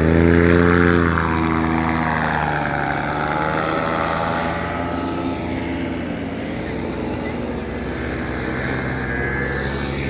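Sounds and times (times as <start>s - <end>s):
small propeller engine running: 0.0s - 10.0s.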